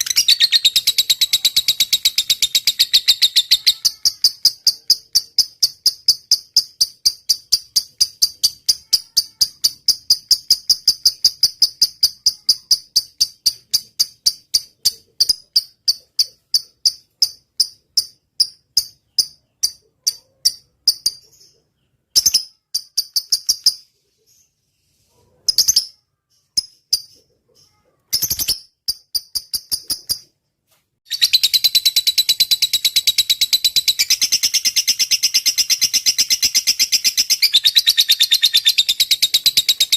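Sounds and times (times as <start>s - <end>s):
lovebird ticking song: 0.0s - 23.9s, 31.1s - 39.9s.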